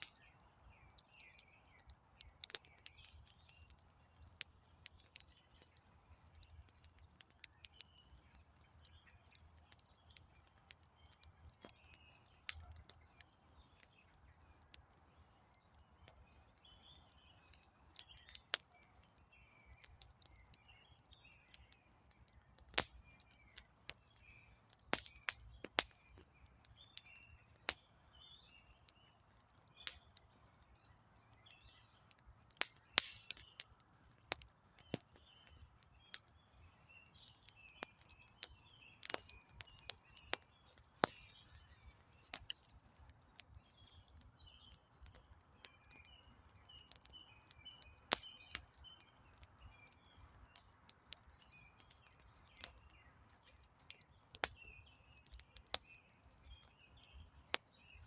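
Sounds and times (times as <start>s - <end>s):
campfire crackling: 0.0s - 58.0s
faint birds chirping: 0.0s - 58.0s.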